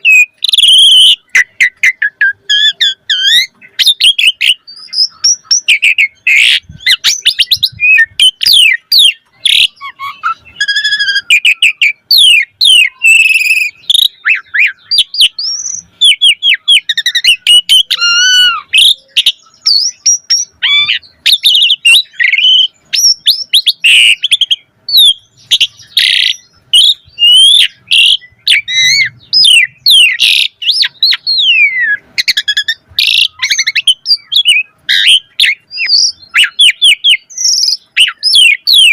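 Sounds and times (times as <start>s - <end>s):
starling singing whistles and trills: 0.0s - 38.9s.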